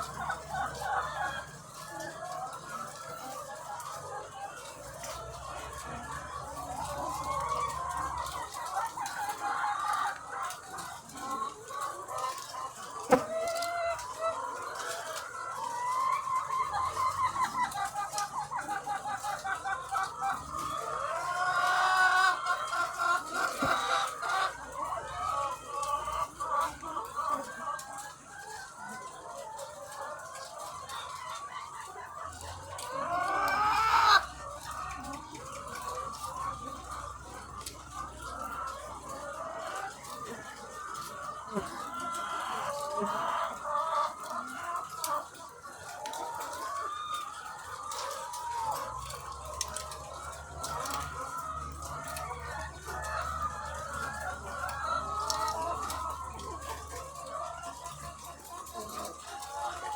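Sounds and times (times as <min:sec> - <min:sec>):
hens clucking: 0:00.0 - 0:59.9.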